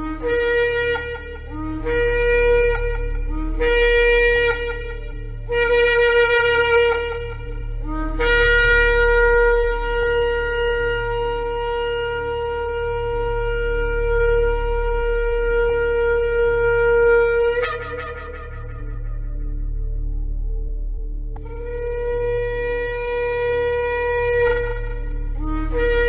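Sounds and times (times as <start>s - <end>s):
shofar blast: 0.0s - 20.4s, 21.4s - 26.0s
low hum: 0.0s - 26.0s.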